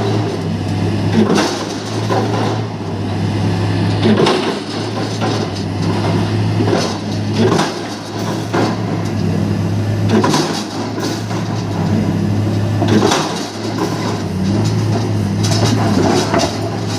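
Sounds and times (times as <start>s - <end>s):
diesel engine humming: 0.0s - 16.9s.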